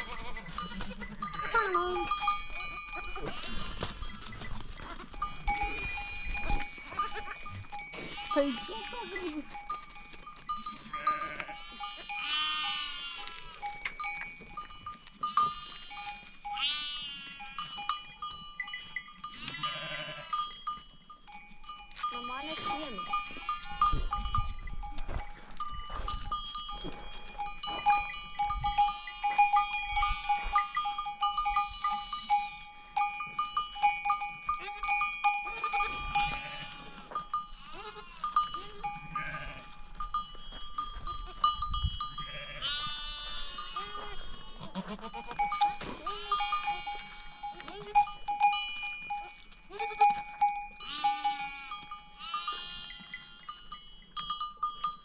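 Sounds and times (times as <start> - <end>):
sheep and goats bleating: 0.0 - 20.7, 21.3 - 25.7, 26.6 - 53.8
neck bells ringing: 0.0 - 42.6, 45.1 - 55.0.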